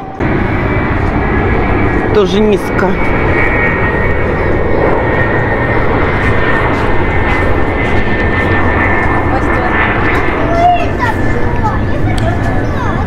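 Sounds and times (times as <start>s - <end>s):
airliner engine noise: 0.0s - 13.0s
high thin whine: 0.0s - 13.0s.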